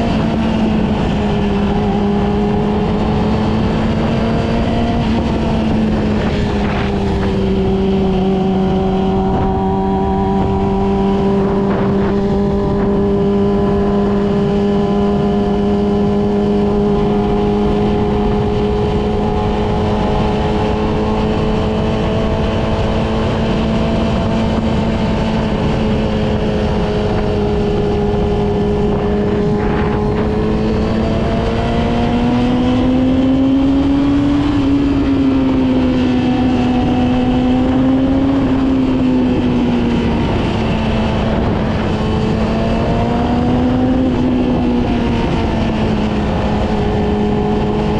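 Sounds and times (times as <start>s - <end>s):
constant rush of wind noise: 0.0s - 47.9s
motorcycle engine cruising: 0.0s - 47.9s.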